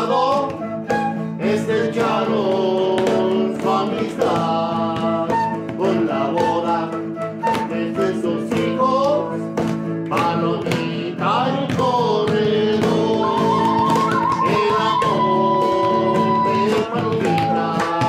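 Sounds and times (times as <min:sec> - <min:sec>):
flute melody: 0:00.0 - 0:09.6, 0:13.0 - 0:18.0
strummed acoustic guitar: 0:00.0 - 0:18.0.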